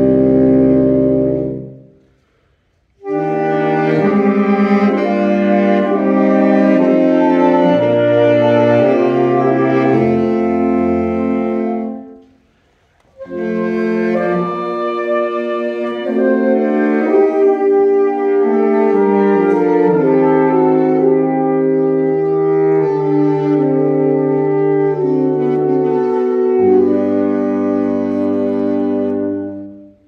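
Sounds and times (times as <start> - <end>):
saxophone quartet playing chords: 0.0 - 30.0.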